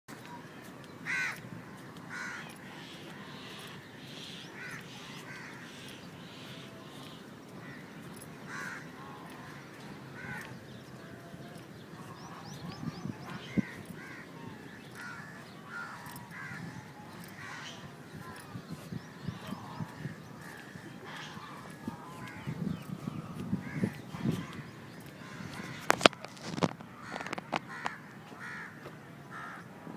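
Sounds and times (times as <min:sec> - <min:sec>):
high bird calls: 0:00.2 - 0:28.0
crows cawing: 0:01.0 - 0:29.6.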